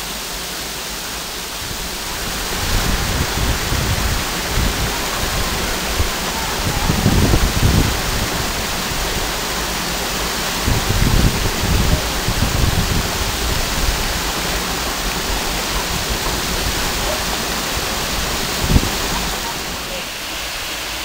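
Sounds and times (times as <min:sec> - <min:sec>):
waterfall pouring: 0:00.0 - 0:21.0
low rumbling surges: 0:01.5 - 0:21.0.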